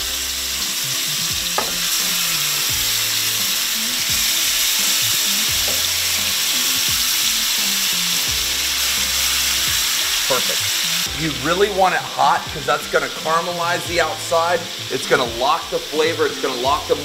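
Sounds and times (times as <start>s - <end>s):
fish sizzling in a skillet: 0.0s - 17.0s.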